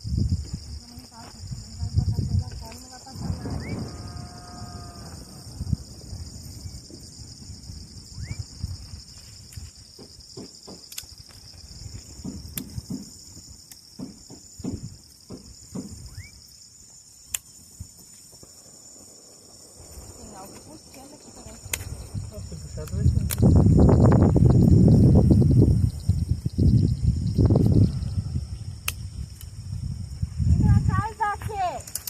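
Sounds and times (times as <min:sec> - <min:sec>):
crickets and insects shrilling: 0:00.0 - 0:32.0.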